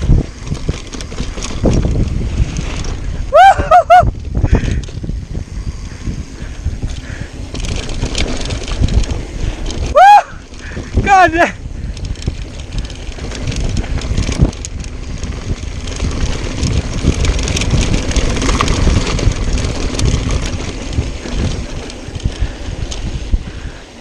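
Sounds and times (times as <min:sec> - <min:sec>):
bike rattling and clicking: 0:00.0 - 0:24.0
wind buffeting microphone: 0:00.0 - 0:24.0.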